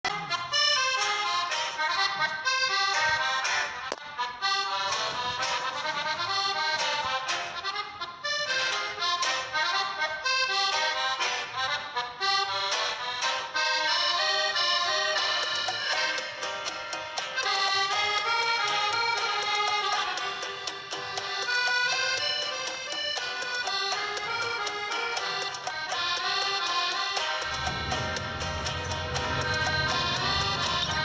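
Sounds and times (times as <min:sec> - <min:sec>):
lively accordion music: 0:00.0 - 0:31.0.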